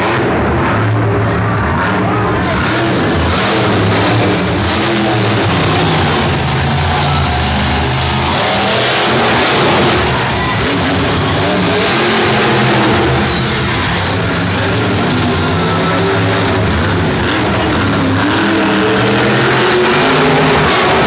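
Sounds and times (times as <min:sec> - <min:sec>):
truck engine revving loudly: 0:00.0 - 0:21.0.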